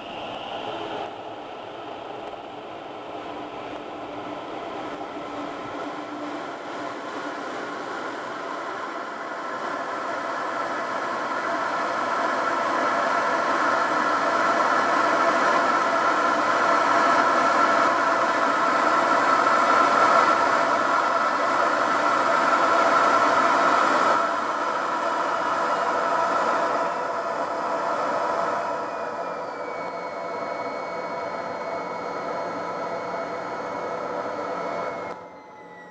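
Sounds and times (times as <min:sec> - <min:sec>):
jet engine rushing and whining: 0:00.0 - 0:35.9.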